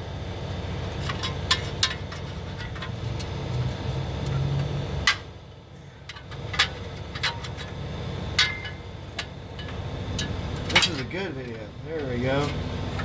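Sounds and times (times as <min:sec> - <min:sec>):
low mechanical running noise: 0:00.0 - 0:13.0.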